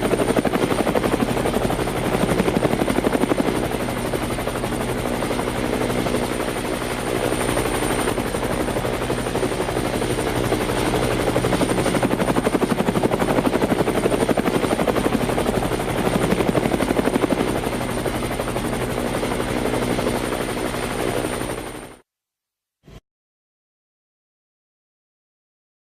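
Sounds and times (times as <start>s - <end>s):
helicopter engine drone: 0.0s - 22.0s
helicopter rotor blades beating: 0.0s - 22.0s.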